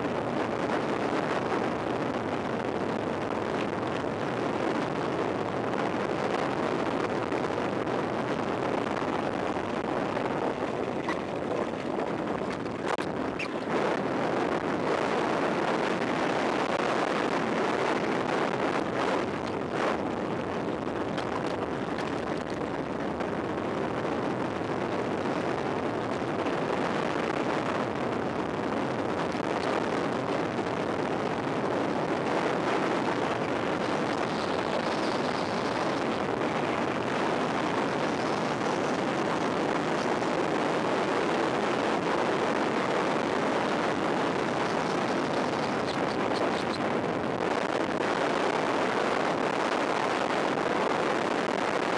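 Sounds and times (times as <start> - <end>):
wind rush on microphone: 0.0 - 51.9.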